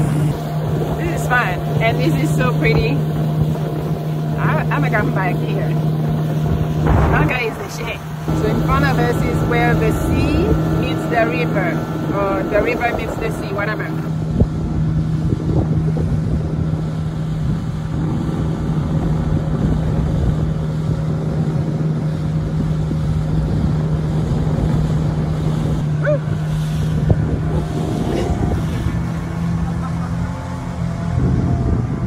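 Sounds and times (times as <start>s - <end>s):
low rumble: 0.0s - 32.0s
motorboat engine running: 0.0s - 32.0s
wind buffeting microphone: 0.0s - 32.0s.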